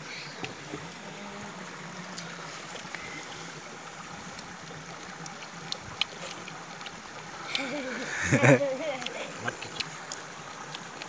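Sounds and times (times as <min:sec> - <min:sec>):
running stream water: 0:00.0 - 0:11.0.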